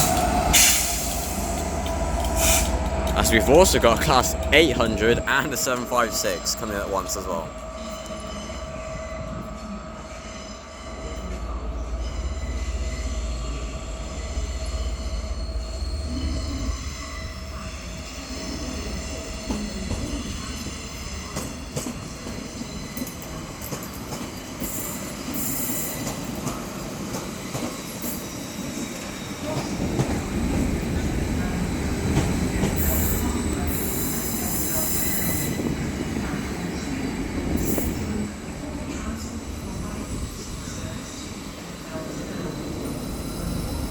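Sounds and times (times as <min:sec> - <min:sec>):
low train rumble: 0:00.0 - 0:43.9
train wheels squealing: 0:00.0 - 0:43.9.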